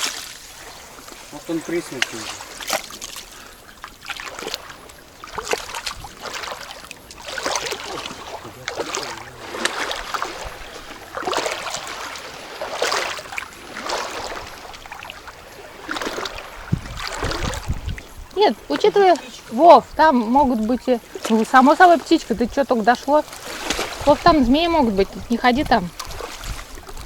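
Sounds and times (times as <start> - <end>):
sea water sloshing and lapping: 0.0 - 27.0.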